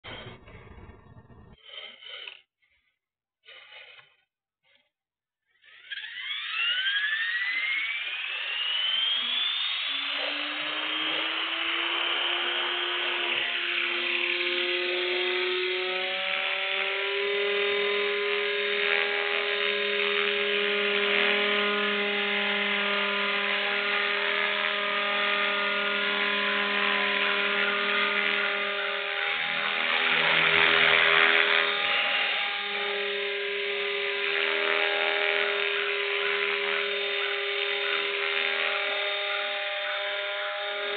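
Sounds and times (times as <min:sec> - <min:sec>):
rc helicopter motor whine: 0:00.0 - 0:02.4, 0:05.5 - 0:40.9.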